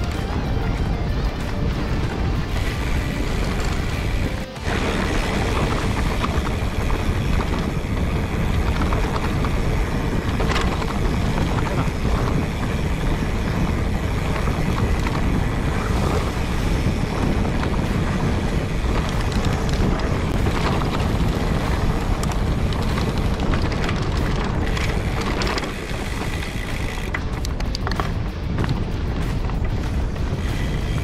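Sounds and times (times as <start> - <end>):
bike clicks and rattles: 0.0 - 31.0
wind buffeting microphone: 0.0 - 31.0.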